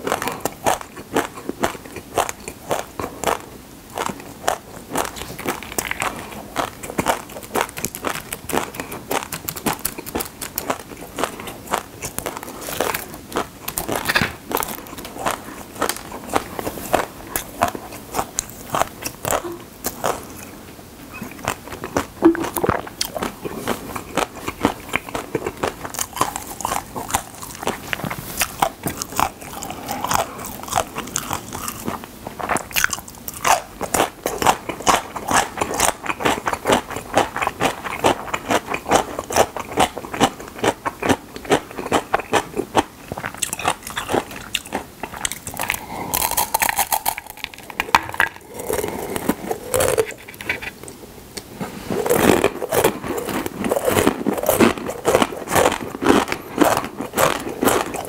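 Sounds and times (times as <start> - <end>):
crunching dry noodles: 0.0 - 20.6, 21.3 - 50.8, 51.7 - 58.0.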